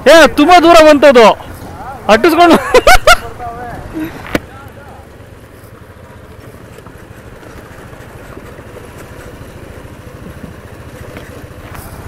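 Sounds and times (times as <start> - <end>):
scooter engine running: 0.0 - 12.0
tyres rumbling on gravel road: 0.0 - 12.0.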